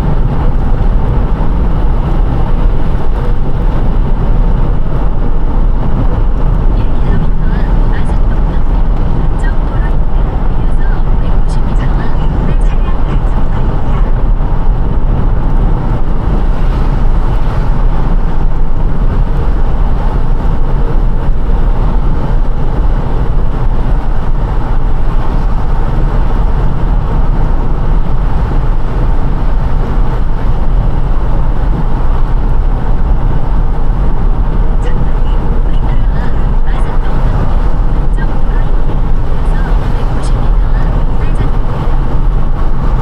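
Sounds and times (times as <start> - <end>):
car tyres and engine rumble: 0.0 - 43.0.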